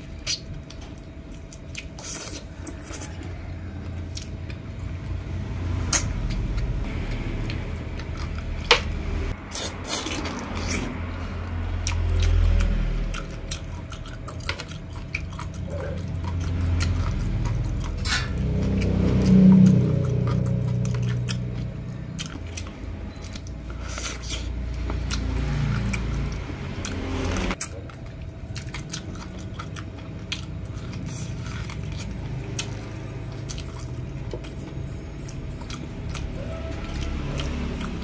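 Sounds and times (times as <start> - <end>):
biting and chewing: 0.0 - 38.0.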